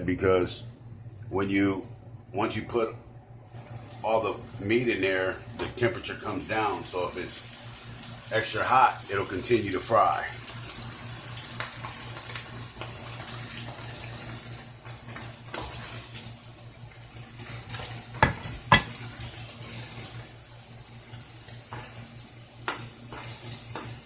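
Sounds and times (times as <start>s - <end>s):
food frying in hot oil: 3.5s - 24.0s.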